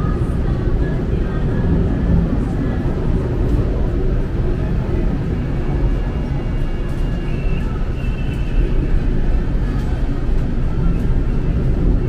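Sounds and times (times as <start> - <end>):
tram low rumble: 0.0 - 12.0.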